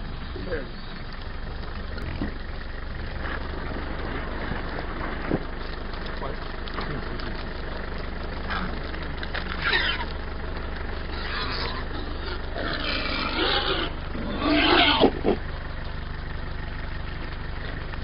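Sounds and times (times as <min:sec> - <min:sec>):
vehicle engine idling: 0:00.0 - 0:18.0
wild boars calling: 0:00.0 - 0:18.0.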